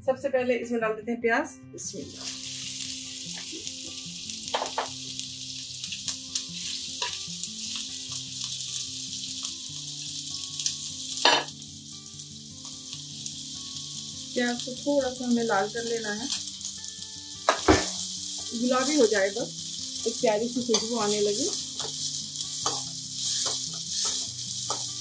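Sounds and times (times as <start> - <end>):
onions sizzling in hot oil: 2.0 - 25.0.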